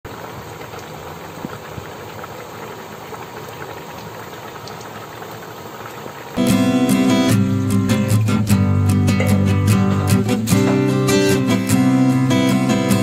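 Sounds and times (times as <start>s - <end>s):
soup boiling: 0.1s - 13.0s.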